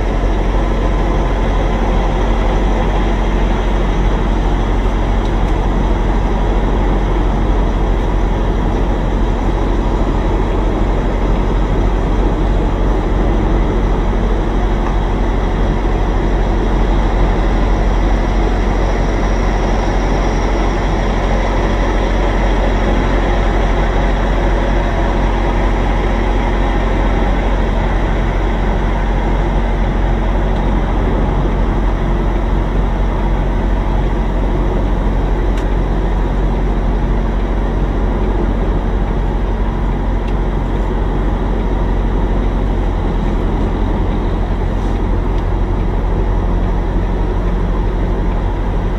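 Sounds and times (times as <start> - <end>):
truck diesel engine drone: 0.0 - 48.9.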